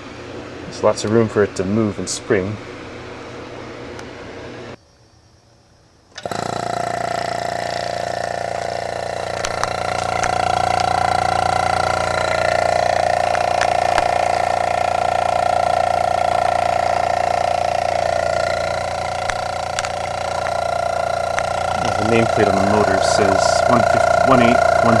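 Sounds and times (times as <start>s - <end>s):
compressor motor hum with high tone: 0.0s - 4.8s, 6.1s - 25.0s.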